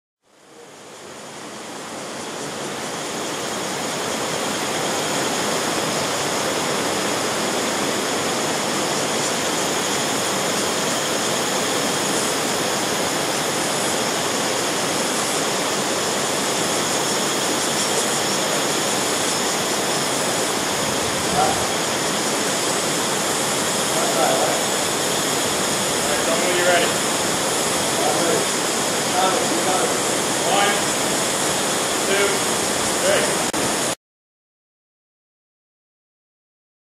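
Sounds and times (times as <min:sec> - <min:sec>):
river rushing over rocks: 0:00.8 - 0:34.0.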